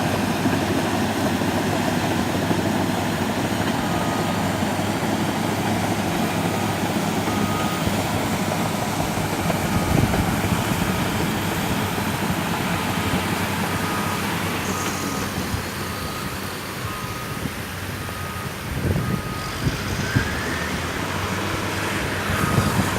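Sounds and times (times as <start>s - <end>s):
bulldozer diesel engine running: 0.0s - 22.9s
reversing alarm beeping: 0.1s - 22.9s.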